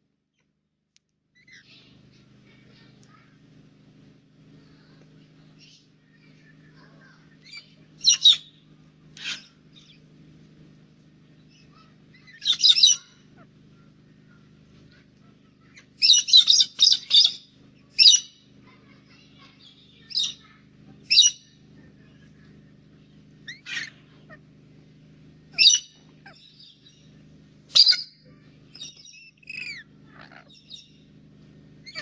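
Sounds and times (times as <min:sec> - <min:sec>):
faint low hum: 0:00.0 - 0:32.0
birds chirping: 0:01.4 - 0:32.0.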